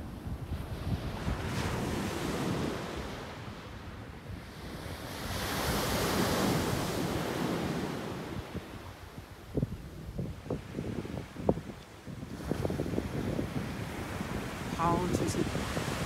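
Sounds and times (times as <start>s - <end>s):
sea waves breaking on shore: 0.0s - 16.0s
wind buffeting microphone: 0.0s - 16.0s.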